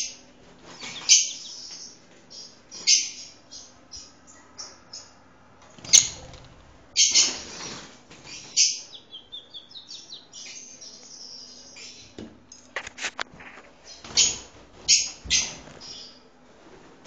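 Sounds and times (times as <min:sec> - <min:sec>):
lovebirds screeching: 0:00.0 - 0:05.2, 0:05.8 - 0:12.2, 0:13.4 - 0:16.2.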